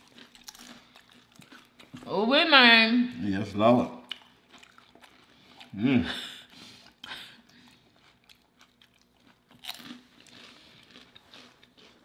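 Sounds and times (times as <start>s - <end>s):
chewing crisp potato chips: 0.0s - 2.1s, 4.0s - 12.0s.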